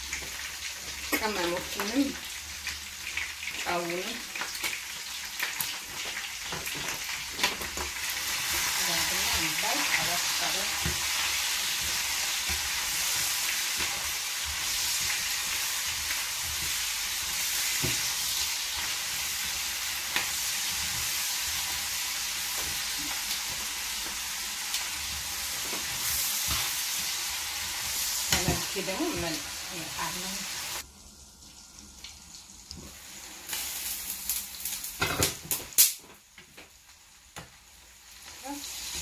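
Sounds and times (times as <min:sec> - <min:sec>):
meat and vegetables sizzling in pan: 0:00.0 - 0:39.0.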